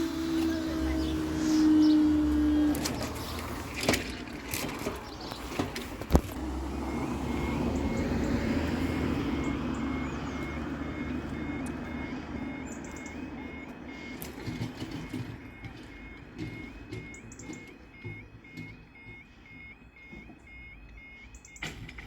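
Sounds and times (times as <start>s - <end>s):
level crossing warning alarm: 0.0s - 22.0s
road traffic: 0.0s - 22.0s.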